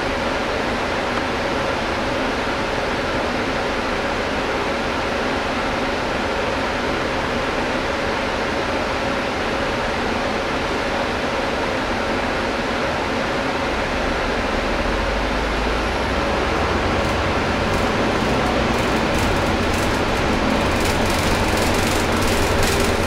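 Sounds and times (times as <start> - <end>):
air conditioning running: 0.0 - 23.0
bus engine rumble: 0.0 - 23.0.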